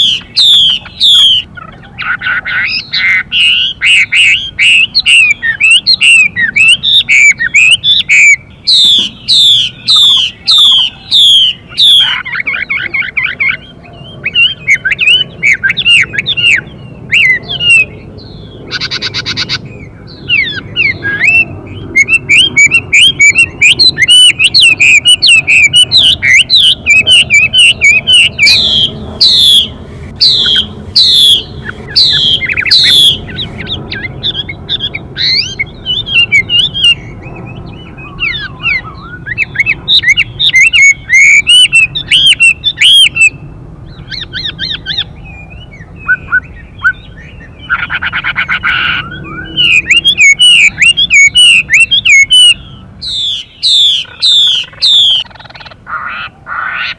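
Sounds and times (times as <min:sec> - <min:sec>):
bird singing whistled song: 0:00.0 - 0:55.3
harsh buzzy bird calls: 0:00.0 - 0:56.9.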